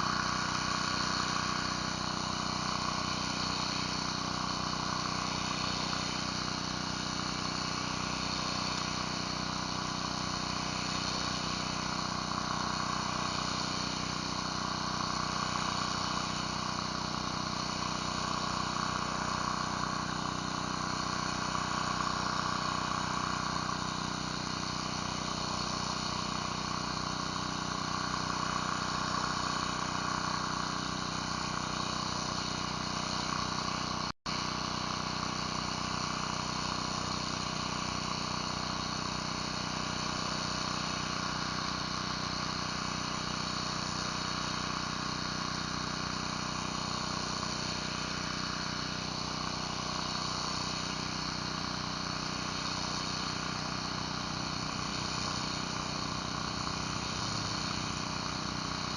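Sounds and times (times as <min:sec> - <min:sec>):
pressure washer drone: 0:00.0 - 0:58.9
water spray hissing on concrete: 0:00.0 - 0:58.9.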